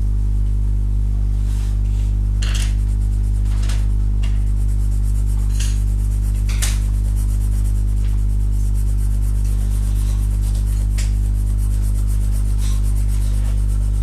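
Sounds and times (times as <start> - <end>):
steady electrical hum: 0.0 - 14.0
pencil shading on paper: 2.7 - 14.0.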